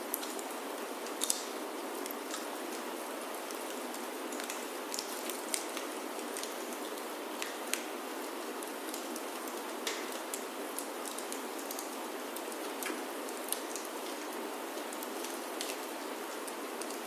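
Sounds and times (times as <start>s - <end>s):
rain pattering on wooden roof: 0.0s - 17.0s
wood fire crackling: 0.0s - 17.0s.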